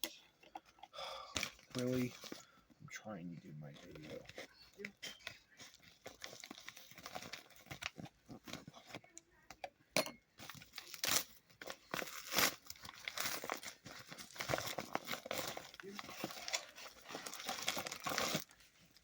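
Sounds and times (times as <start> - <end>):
packaging crinkling and tearing: 0.4 - 2.6, 3.6 - 9.2, 10.4 - 19.0.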